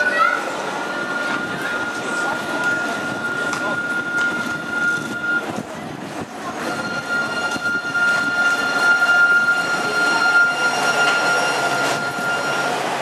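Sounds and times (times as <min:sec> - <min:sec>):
tram high whine: 0:00.0 - 0:13.0
tram wheels rumbling on rails: 0:00.0 - 0:13.0.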